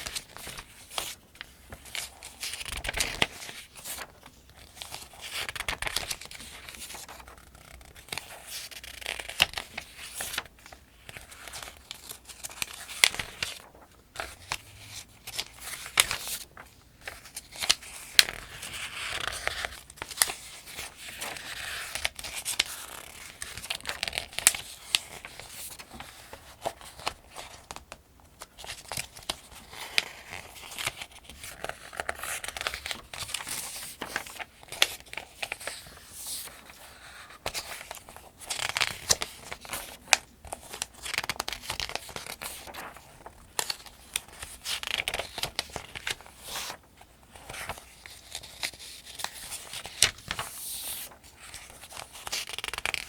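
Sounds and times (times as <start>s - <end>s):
paper pages turning: 0.0s - 53.0s.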